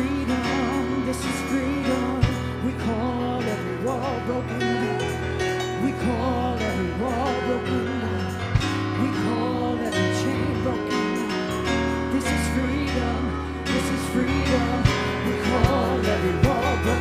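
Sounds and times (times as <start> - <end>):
drum kit: 0.0 - 17.0
sustained bass notes: 0.0 - 17.0
voices singing into microphones: 0.0 - 17.0.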